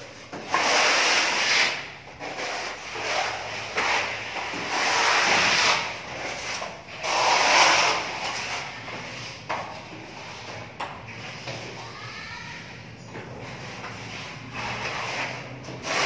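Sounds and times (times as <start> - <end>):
sanding plaster wall: 0.0 - 11.9, 13.3 - 16.0.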